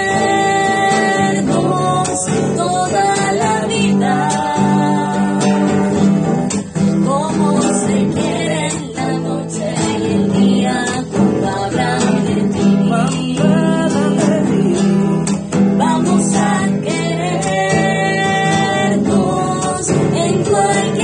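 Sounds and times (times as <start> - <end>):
acoustic guitars strummed: 0.0 - 21.0
man singing: 0.0 - 21.0
woman singing: 0.0 - 21.0.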